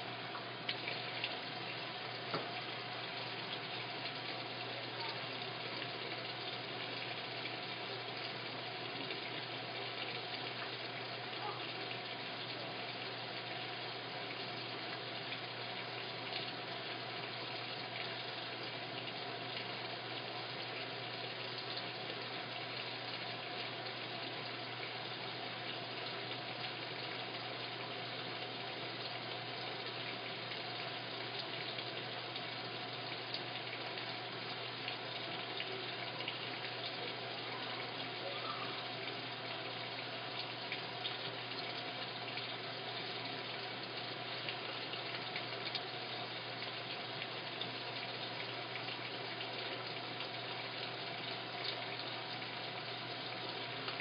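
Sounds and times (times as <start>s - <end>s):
washing machine filling with water: 0.0s - 54.0s.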